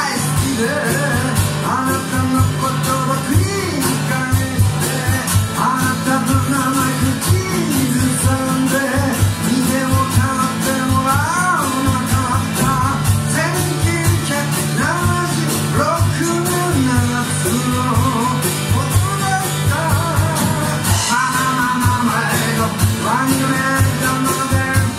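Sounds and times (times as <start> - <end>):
drum kit beat: 0.0 - 24.9
man singing: 0.0 - 24.9
strummed acoustic guitar: 0.0 - 24.9.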